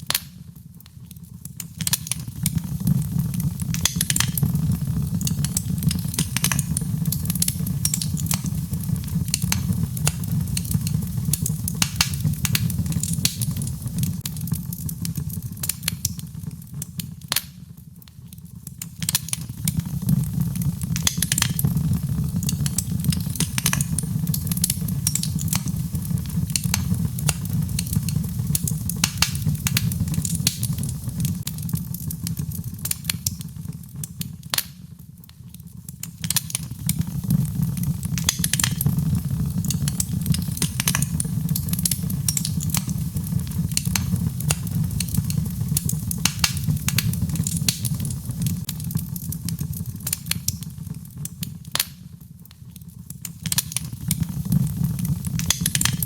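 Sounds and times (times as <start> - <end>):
fire crackling and popping: 0.0 - 56.0
low roar of flames: 0.1 - 16.8, 18.8 - 34.5, 36.0 - 51.4, 53.8 - 56.0.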